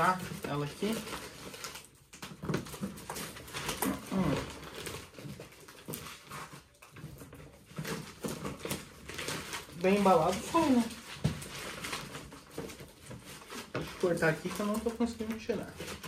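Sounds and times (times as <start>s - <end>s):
cardboard and paper rustling: 0.0s - 16.0s.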